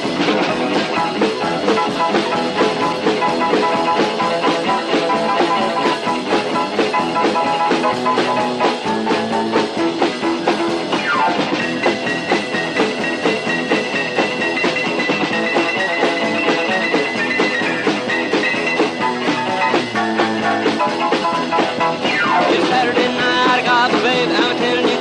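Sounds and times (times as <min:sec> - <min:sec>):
drums steady beat: 0:00.0 - 0:25.0
rock and roll band playing: 0:00.0 - 0:25.0.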